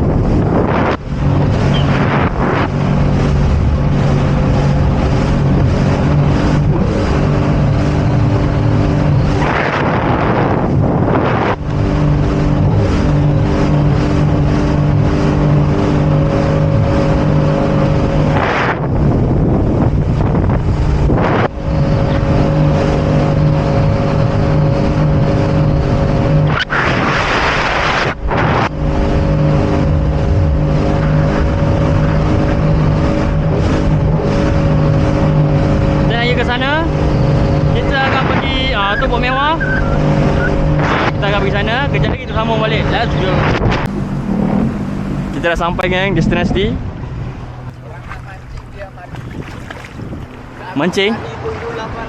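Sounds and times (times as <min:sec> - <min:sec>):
jet ski engine running: 0:00.0 - 0:52.0
wind on microphone: 0:00.0 - 0:52.0.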